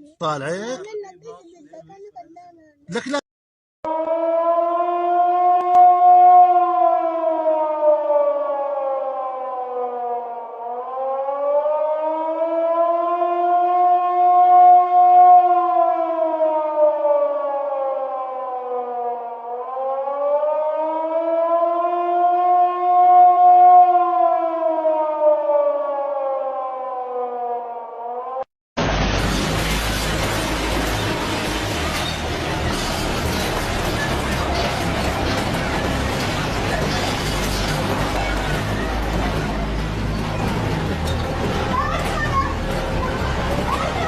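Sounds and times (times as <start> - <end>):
warning siren wailing: 3.8 - 28.5, 29.2 - 44.0.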